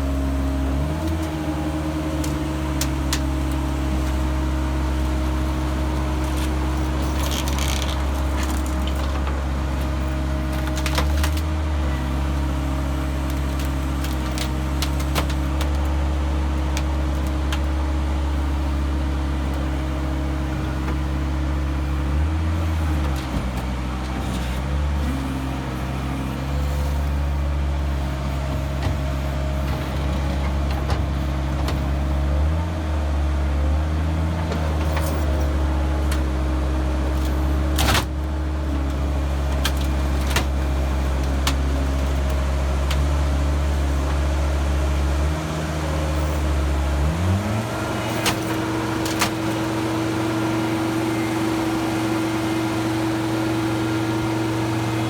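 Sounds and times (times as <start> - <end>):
heavy equipment engine under load: 0.0 - 55.0.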